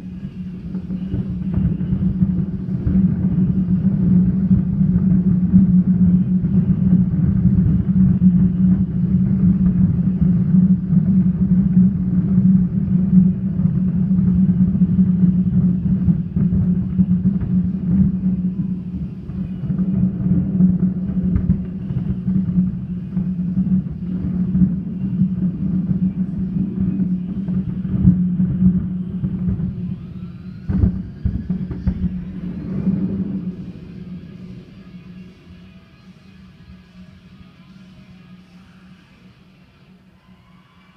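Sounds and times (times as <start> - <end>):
fireworks bursting: 0.0 - 39.4.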